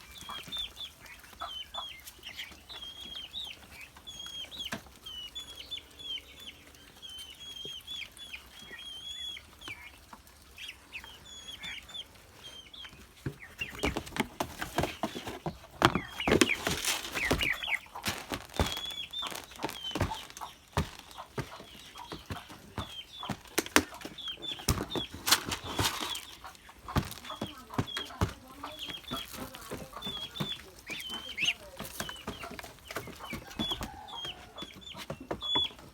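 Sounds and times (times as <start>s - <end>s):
ducklings peeping: 0.0s - 35.9s
ducks scuffling and wing flapping: 0.0s - 35.9s.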